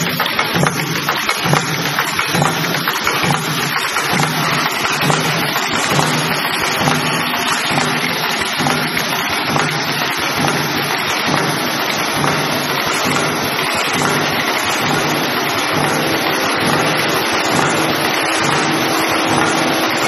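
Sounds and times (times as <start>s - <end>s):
machine running: 0.0s - 20.0s.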